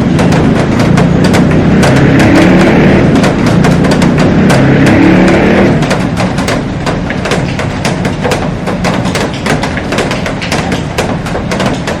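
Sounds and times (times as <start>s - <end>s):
heavy rain on a glass roof: 0.0s - 12.0s.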